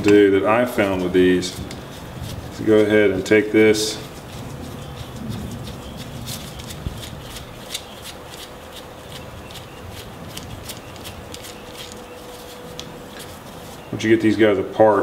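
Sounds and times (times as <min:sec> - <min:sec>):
gloves rubbing: 0:00.0 - 0:14.4.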